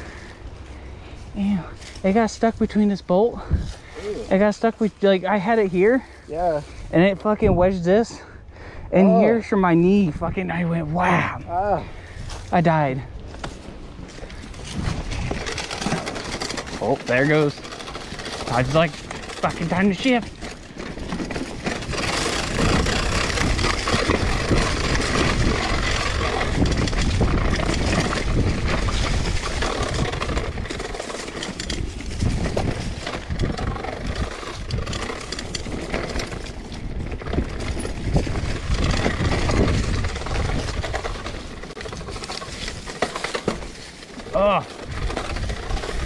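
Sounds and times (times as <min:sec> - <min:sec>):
wind buffeting microphone: 0:00.0 - 0:04.3, 0:05.8 - 0:46.0
tyres rolling through dirt and leaves: 0:00.0 - 0:46.0.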